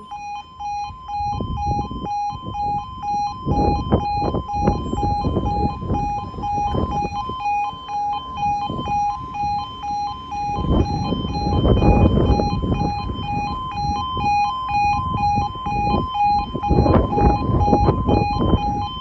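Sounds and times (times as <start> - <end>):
low rumbling noise: 0.0 - 19.0
two-tone crossing alarm: 0.0 - 19.0.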